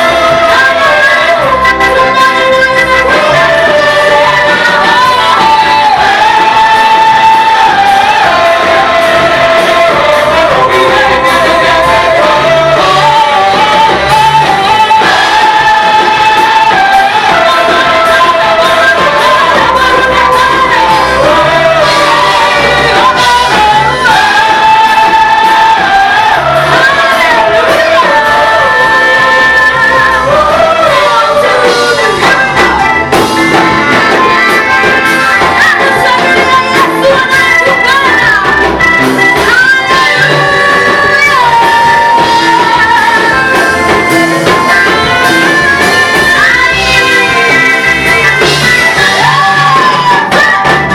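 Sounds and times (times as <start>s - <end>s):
group singing a praise song: 0.0s - 50.9s
instrumental backing: 0.0s - 50.9s.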